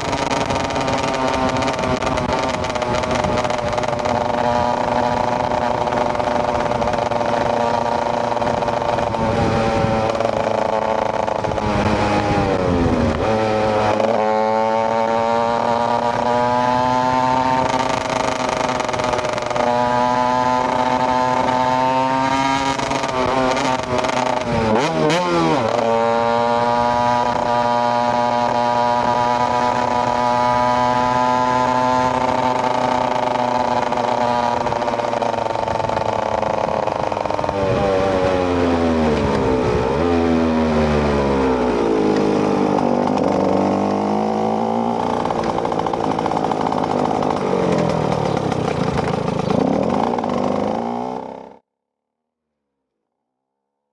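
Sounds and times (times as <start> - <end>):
two-stroke engine running: 0.0 - 51.6.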